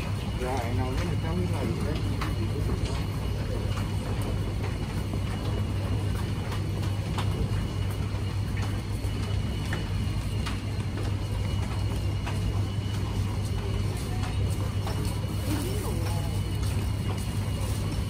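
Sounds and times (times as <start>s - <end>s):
shoes clicking on tiled floor: 0.0s - 18.0s.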